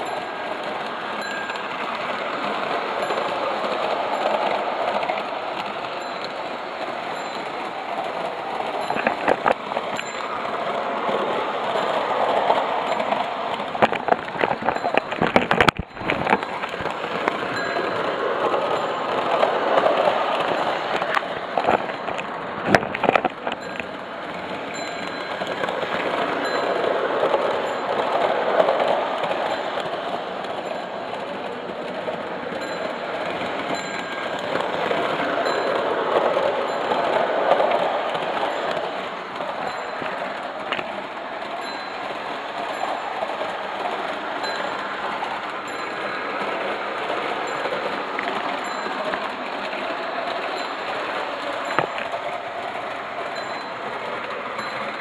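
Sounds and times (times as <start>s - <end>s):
sharp clicks and clacks: 0.0s - 55.0s
toy train whirring rattle: 0.0s - 55.0s.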